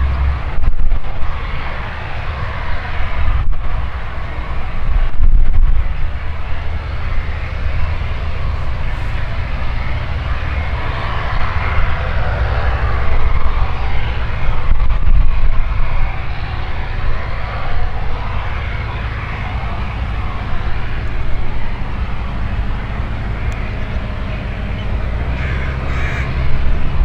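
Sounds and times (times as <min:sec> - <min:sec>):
aircraft engine and propeller running: 0:03.2 - 0:27.0.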